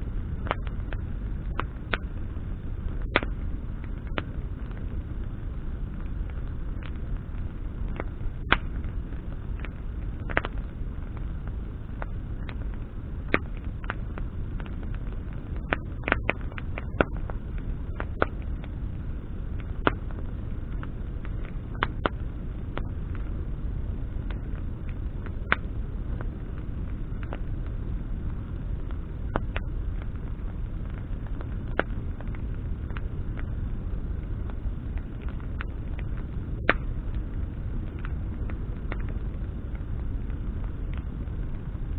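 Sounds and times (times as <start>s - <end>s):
bonfire crackling and popping: 0.0s - 41.9s
low rushing noise: 0.0s - 41.9s.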